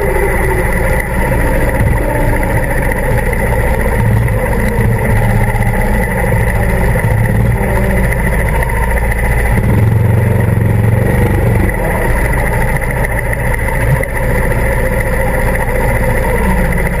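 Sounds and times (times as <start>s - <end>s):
go-kart motor running: 0.0s - 17.0s.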